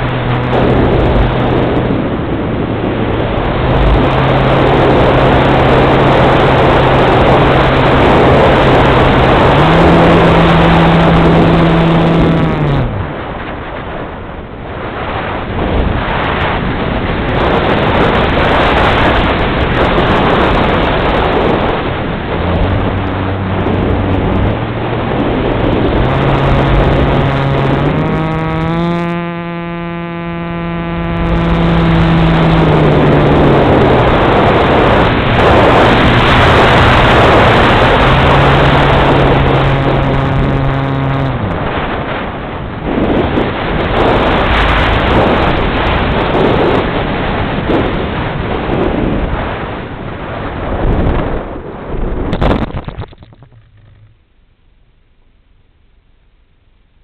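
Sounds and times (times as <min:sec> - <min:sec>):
propeller motor droning: 0:00.0 - 0:47.1, 0:52.4 - 0:54.3
wind rushing over camera: 0:00.0 - 0:54.2.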